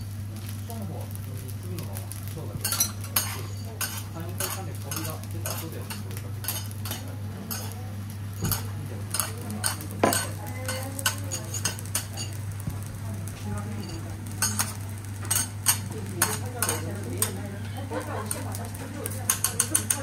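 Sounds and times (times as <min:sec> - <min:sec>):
food sizzling: 0:00.0 - 0:20.0.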